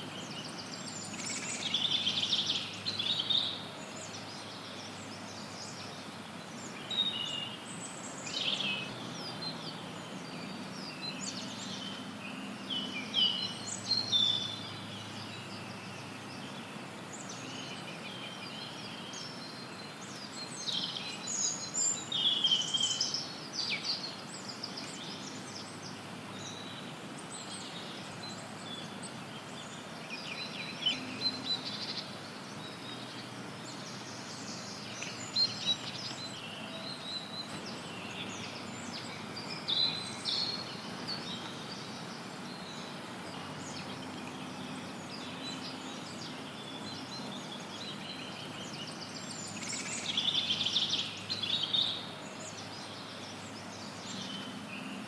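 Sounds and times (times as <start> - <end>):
birds chirping and singing: 0.0 - 55.0
white noise hiss: 0.0 - 55.0.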